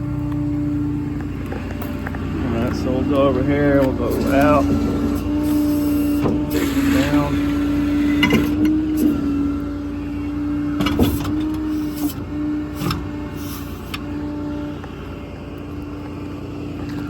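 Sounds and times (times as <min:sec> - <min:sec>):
diesel engine running: 0:00.0 - 0:17.0
hydraulic pump whine: 0:00.0 - 0:17.0.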